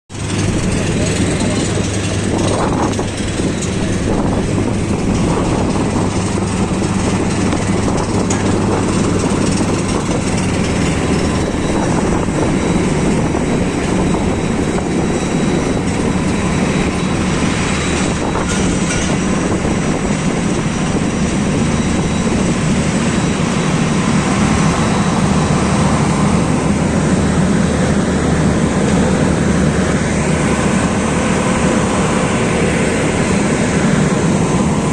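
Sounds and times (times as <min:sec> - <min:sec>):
aircraft engines rumbling: 0:00.1 - 0:34.9
high whining tones: 0:00.2 - 0:34.9.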